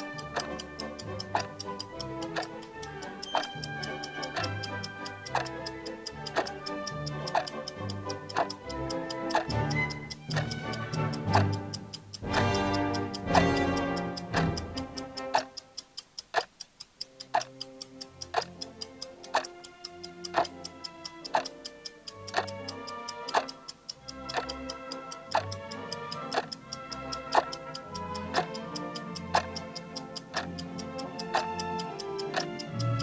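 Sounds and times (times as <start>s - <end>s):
background music: 0.0s - 15.9s, 17.2s - 33.0s
clock ticking: 0.0s - 33.0s.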